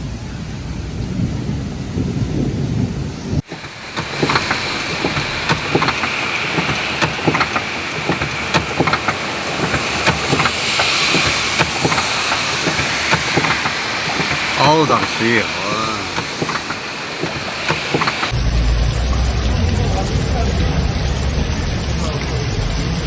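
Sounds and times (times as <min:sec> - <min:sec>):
heavy rainstorm rumble: 0:00.0 - 0:23.0
hissing rain: 0:00.0 - 0:23.0
raindrops tapping nearby: 0:03.4 - 0:23.0.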